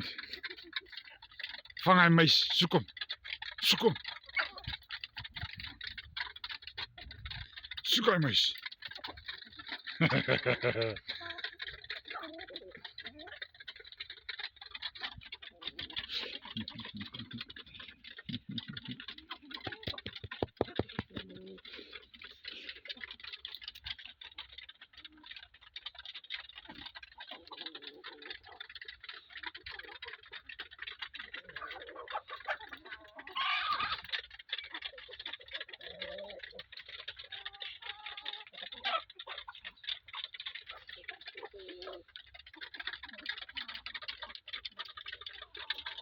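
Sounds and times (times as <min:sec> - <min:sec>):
chickens pecking at feed: 0:00.0 - 0:46.0.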